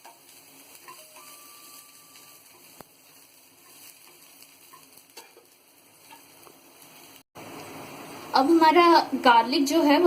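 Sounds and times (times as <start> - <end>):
garlic sizzling in oil: 0.0 - 10.0.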